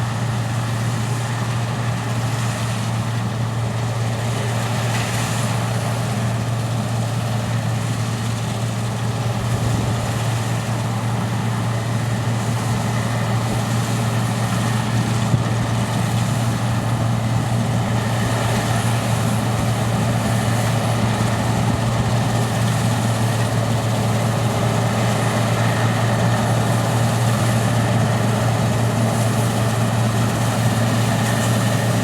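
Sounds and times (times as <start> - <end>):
combine harvester engine drone: 0.0 - 32.0.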